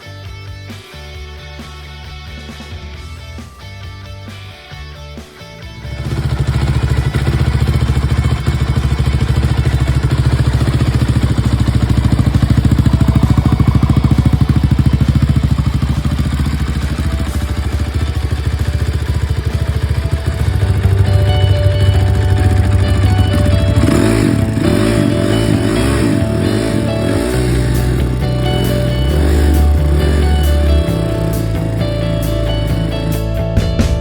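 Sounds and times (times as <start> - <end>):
music: 0.0 - 34.0
motorcycle engine running: 5.6 - 34.0.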